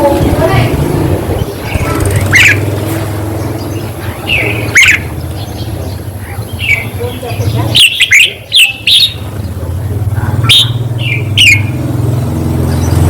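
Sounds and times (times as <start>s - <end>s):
bird chirping: 0.6s - 12.0s.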